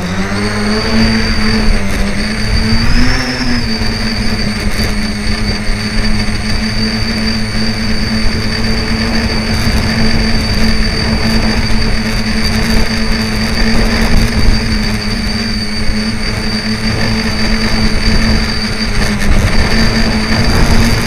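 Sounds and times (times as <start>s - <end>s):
electric motors and propellers whining: 0.0s - 21.0s
wind buffeting microphone: 0.0s - 21.0s.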